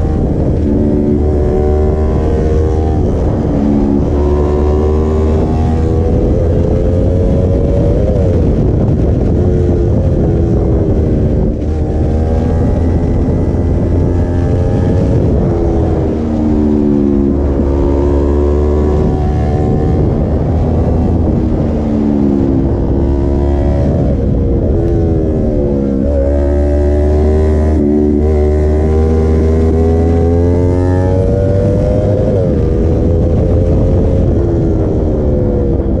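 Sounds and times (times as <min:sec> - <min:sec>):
motorcycle engine revving: 0:00.0 - 0:36.0
wind rush over microphone: 0:00.0 - 0:36.0.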